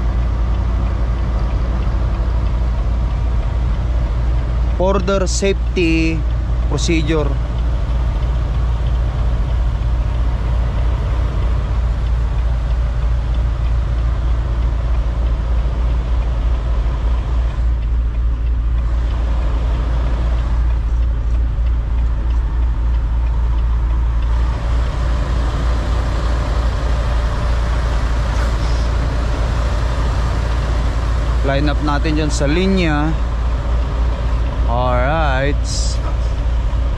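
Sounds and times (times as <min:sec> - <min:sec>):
diesel truck engine droning: 0:00.0 - 0:36.9.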